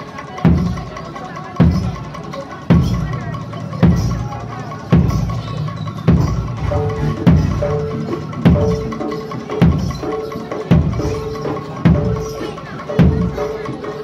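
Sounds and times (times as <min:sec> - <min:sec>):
light percussion: 0:00.0 - 0:14.0.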